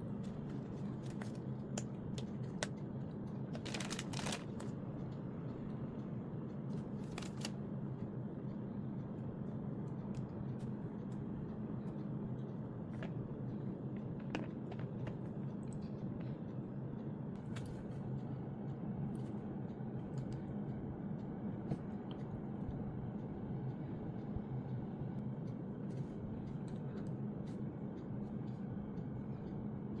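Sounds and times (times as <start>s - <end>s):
low background hum: 0.0s - 30.0s.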